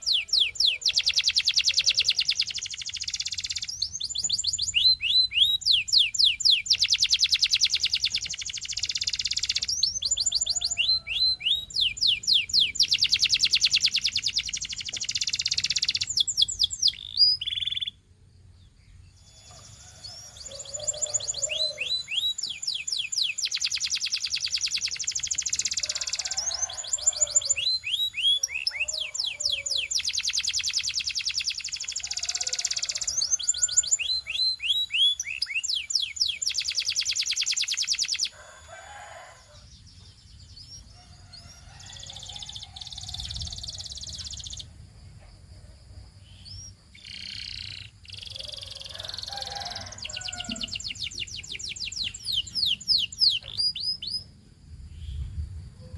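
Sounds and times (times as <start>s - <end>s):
canary singing trills: 0.0s - 44.8s, 46.3s - 54.4s.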